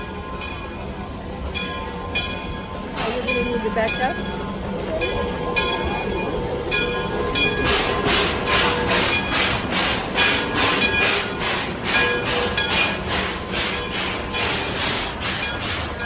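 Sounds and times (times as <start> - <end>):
train chuffing: 0.4 - 16.0.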